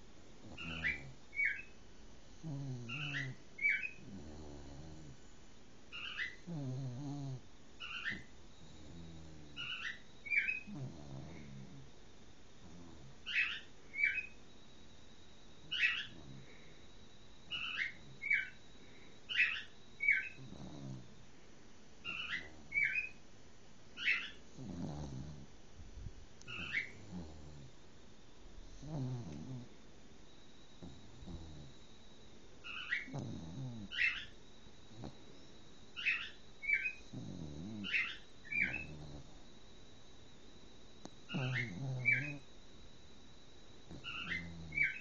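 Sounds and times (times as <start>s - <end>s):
dog snoring: 0.4s - 1.7s, 2.3s - 5.3s, 5.9s - 14.4s, 15.5s - 21.2s, 22.0s - 23.2s, 24.0s - 25.6s, 26.4s - 27.8s, 28.5s - 40.4s, 41.0s - 45.0s.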